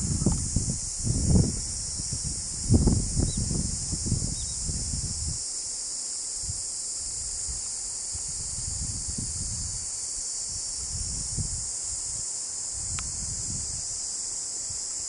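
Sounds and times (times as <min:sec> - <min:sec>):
wind rumble on microphone: 0:00.0 - 0:05.5, 0:06.4 - 0:14.0
high-pitched insect chorus: 0:00.0 - 0:15.0.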